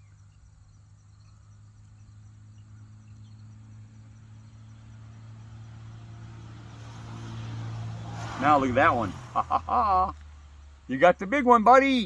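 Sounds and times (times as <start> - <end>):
insects chirping: 0.0 - 11.9.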